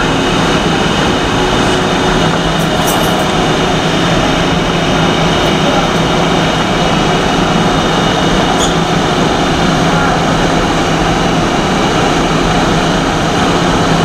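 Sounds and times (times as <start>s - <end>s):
subway train rumbling in tunnel: 0.0s - 14.0s.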